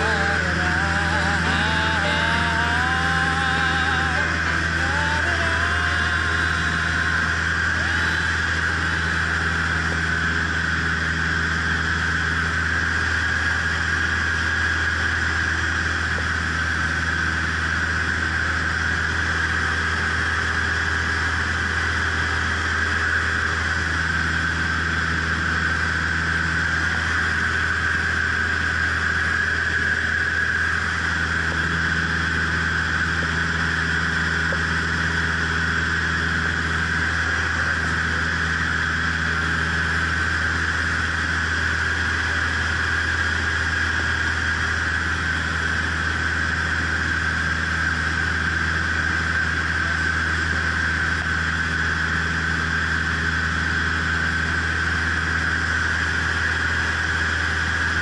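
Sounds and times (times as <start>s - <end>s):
airplane engine and propeller droning: 0.0s - 58.0s.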